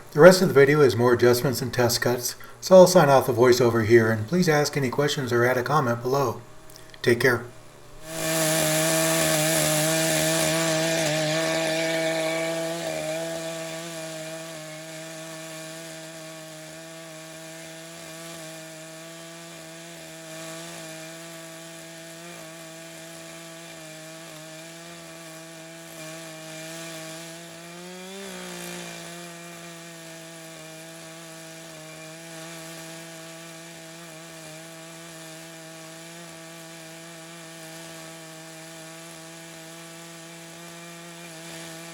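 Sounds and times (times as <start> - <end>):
chainsaw ripping wood: 8.0 - 41.9.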